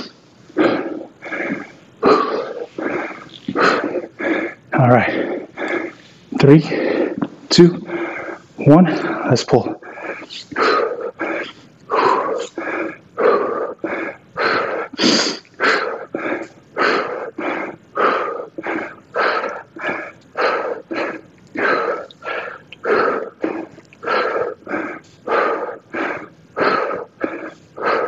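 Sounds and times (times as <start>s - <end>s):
man breathing hard: 0.0s - 28.0s.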